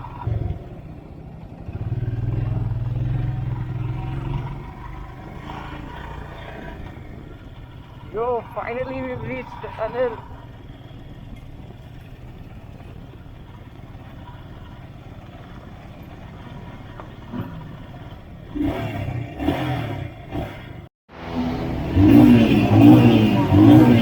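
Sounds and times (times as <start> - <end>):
motorcycle engine rumbling and revving: 0.0 - 24.0.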